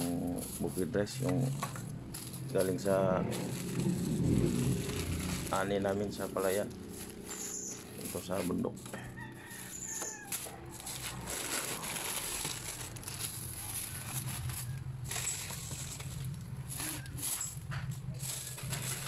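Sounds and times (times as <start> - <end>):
plastic bags rustling: 0.0 - 19.0.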